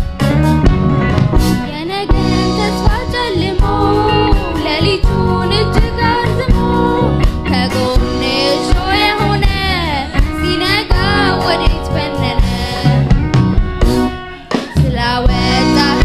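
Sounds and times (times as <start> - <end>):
band with bass and drums: 0.0 - 16.0
person singing: 1.6 - 13.2, 14.4 - 16.0.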